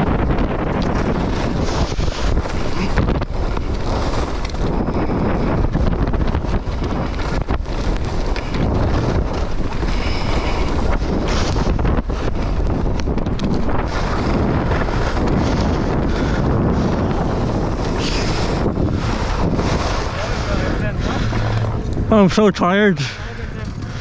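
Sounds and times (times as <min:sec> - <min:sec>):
wind buffeting microphone: 0:00.0 - 0:24.0
skis scraping on snow: 0:00.1 - 0:24.0.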